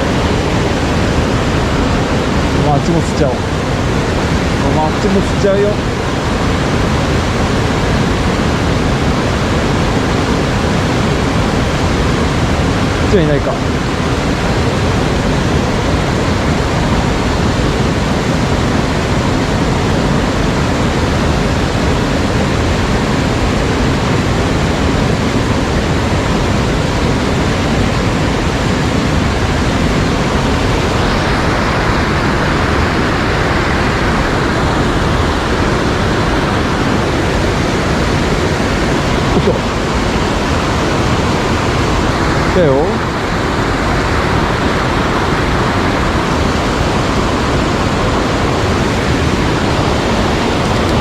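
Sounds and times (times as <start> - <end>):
rushing stream water: 0.0 - 51.0.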